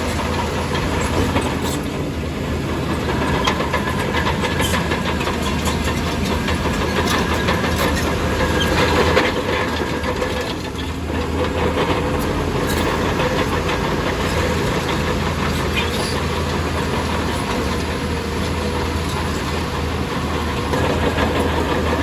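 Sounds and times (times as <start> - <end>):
bulldozer engine running: 0.0 - 22.0
steel tracks clanking: 0.0 - 22.0.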